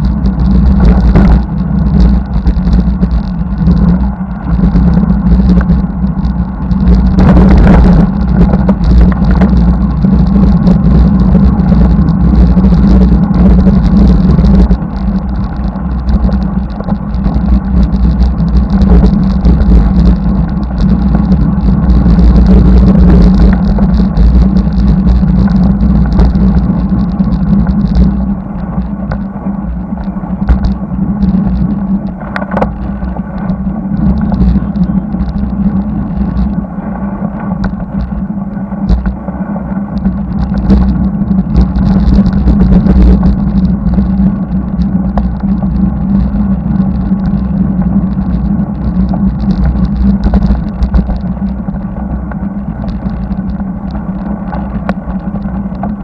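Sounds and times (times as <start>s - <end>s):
wind rumbling on microphone: 0.0s - 56.0s.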